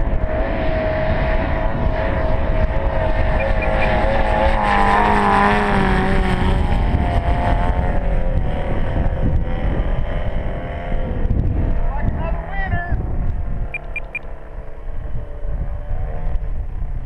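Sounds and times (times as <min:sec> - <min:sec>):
model plane propeller drone: 0:00.0 - 0:17.0.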